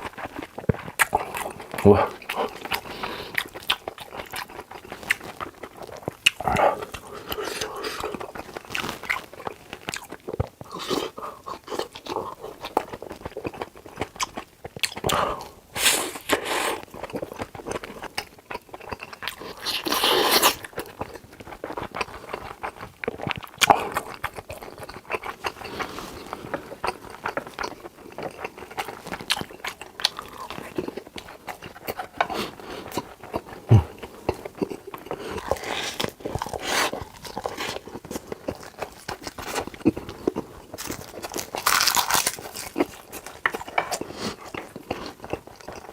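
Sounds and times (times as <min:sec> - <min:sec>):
crunchy chewing and biting: 0:00.0 - 0:45.9.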